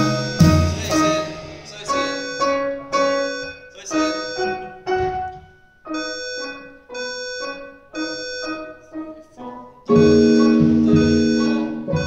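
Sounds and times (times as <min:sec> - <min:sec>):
piano jazz chords: 0:00.0 - 0:12.0.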